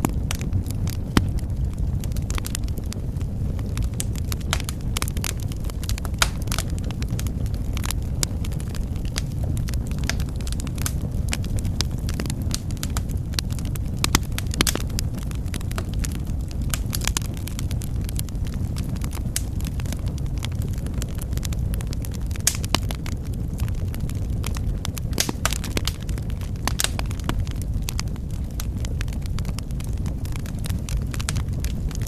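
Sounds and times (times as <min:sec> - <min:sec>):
fire crackling and popping: 0:00.0 - 0:32.0
low rumble of flame: 0:00.0 - 0:32.0.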